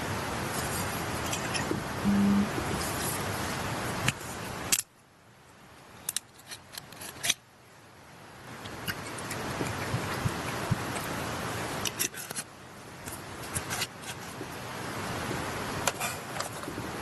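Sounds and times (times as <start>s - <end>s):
mountain stream rushing: 0.0s - 4.7s, 7.8s - 17.0s.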